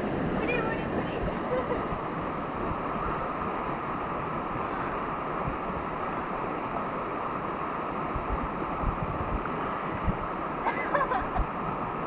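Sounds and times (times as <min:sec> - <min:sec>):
river water flowing: 0:00.0 - 0:12.0
wind bumps on microphone: 0:00.0 - 0:12.0.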